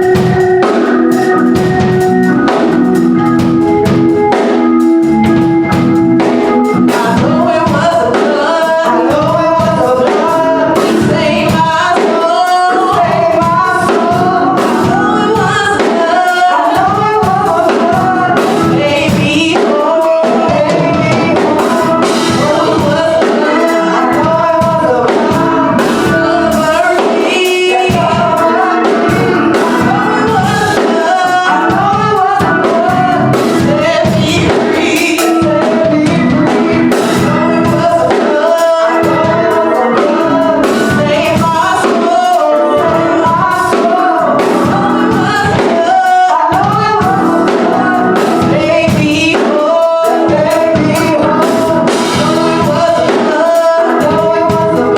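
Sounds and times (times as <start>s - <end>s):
instrumental accompaniment: 0.0s - 54.9s
steady drum beat: 0.0s - 54.9s
choir singing gospel song: 4.3s - 54.9s.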